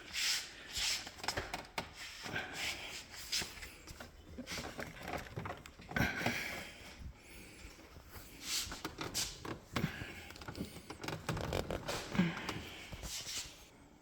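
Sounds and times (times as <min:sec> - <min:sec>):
plastic parts rustling and scraping: 0:00.0 - 0:13.7.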